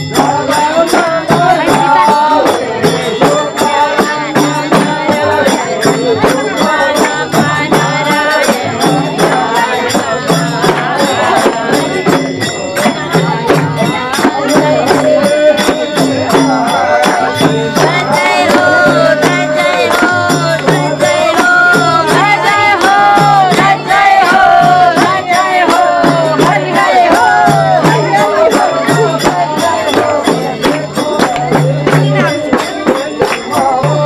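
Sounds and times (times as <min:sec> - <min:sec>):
jingling percussion beat: 0:00.0 - 0:34.0
person singing: 0:00.0 - 0:34.0.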